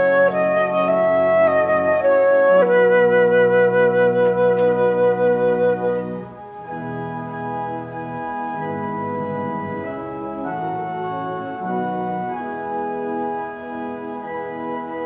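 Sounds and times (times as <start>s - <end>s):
flute with vibrato: 0.0s - 15.0s
organ chords: 0.0s - 15.0s.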